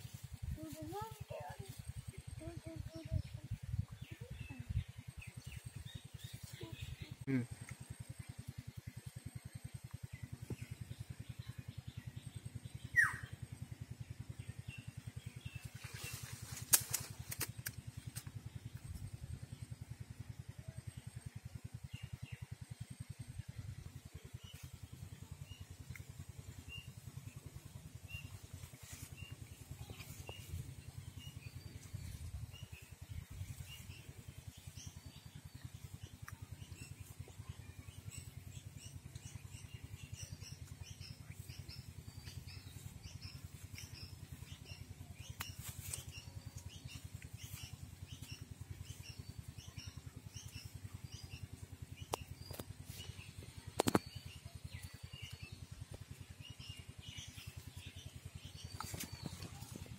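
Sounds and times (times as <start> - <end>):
small birds chirping: 0.0 - 59.9
steady low rumble: 0.0 - 59.9.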